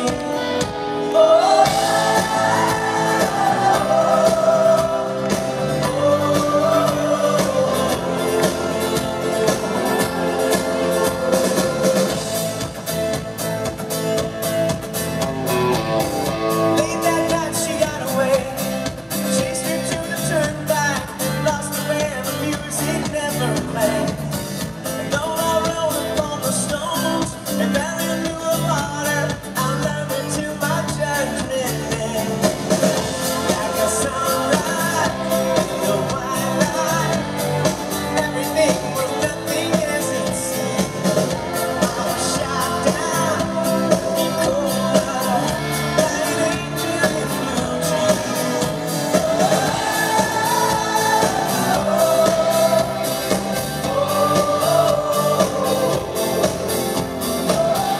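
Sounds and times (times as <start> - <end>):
live pop-rock band: 0.0 - 57.9
male lead vocal singing: 1.0 - 12.7, 16.5 - 57.9.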